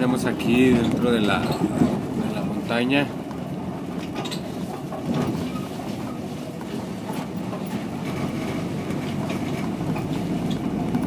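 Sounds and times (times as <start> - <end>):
knocks and rattles from bumps: 0.0 - 11.0
vehicle rumbling on dirt road: 0.0 - 11.0.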